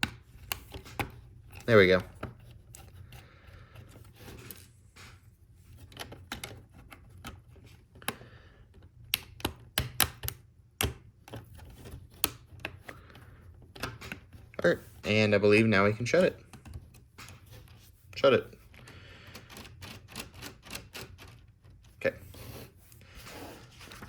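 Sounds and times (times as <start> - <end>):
plastic parts clicking: 0.0 - 22.0.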